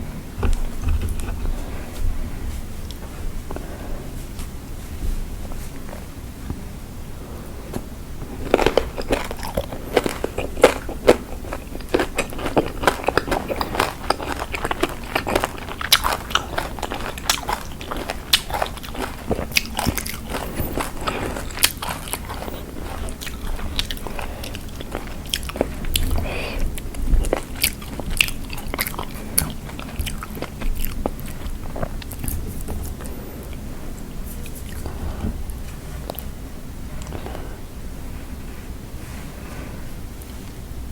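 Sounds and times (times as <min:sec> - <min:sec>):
crunchy eating and chewing: 0:00.0 - 0:40.7.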